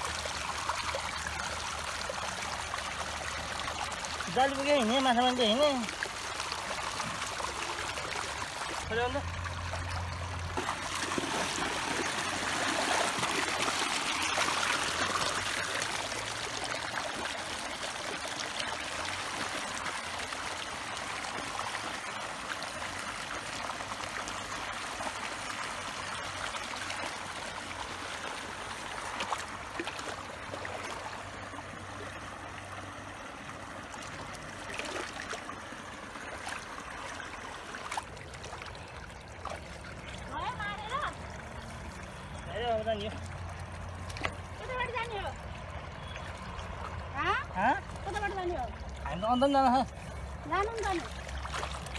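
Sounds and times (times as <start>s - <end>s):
water flowing and trickling: 0.0s - 51.9s.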